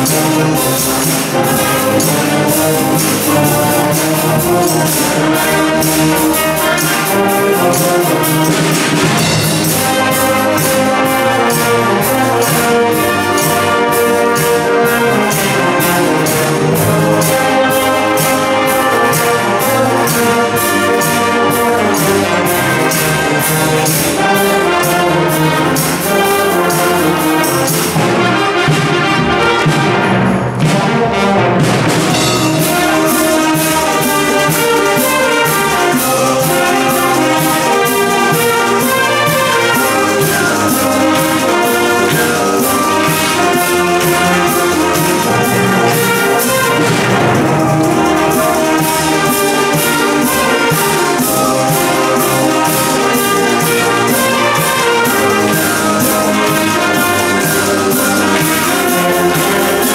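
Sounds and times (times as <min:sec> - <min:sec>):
drum beat with cymbals: 0:00.0 - 0:59.9
wind band playing pop: 0:00.0 - 0:59.9.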